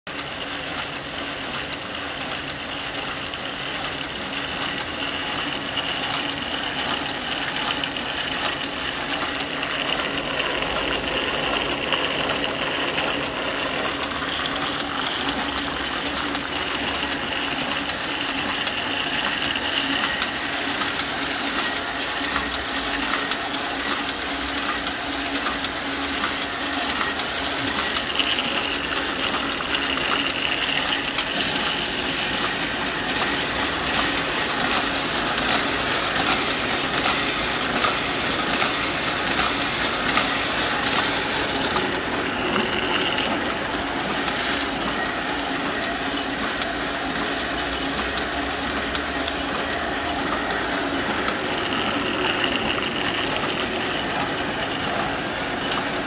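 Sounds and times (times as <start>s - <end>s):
printing press clattering and ticking: 0.1s - 56.0s.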